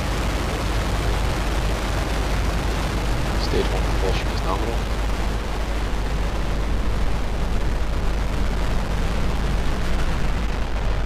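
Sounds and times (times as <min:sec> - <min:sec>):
rocket engines rumbling: 0:00.0 - 0:11.0.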